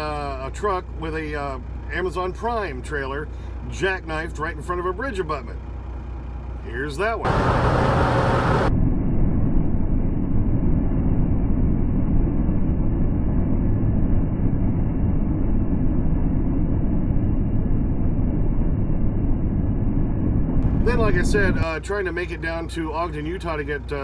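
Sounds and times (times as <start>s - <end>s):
muffled truck engine and road noise: 0.0s - 24.0s.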